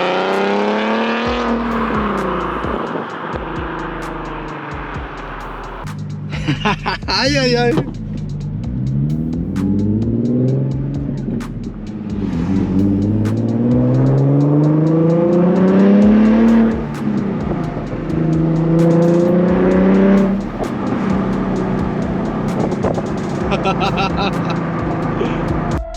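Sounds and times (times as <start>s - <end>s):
car engine accelerating hard: 0.0s - 25.8s.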